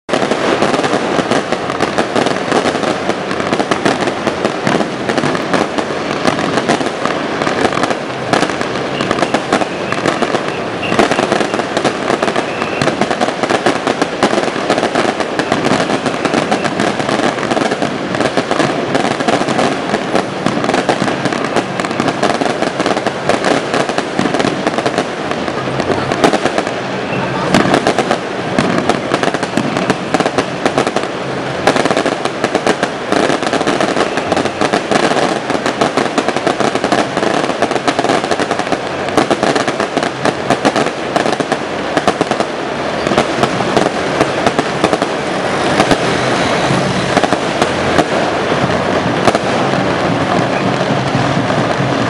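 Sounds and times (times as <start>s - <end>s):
firecrackers and fireworks popping: 0.0s - 52.0s.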